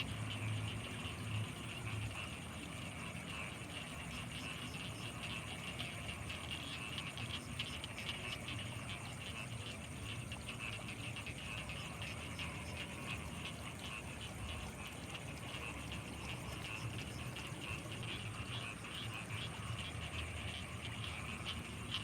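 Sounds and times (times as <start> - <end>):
frogs calling: 0.0 - 22.0.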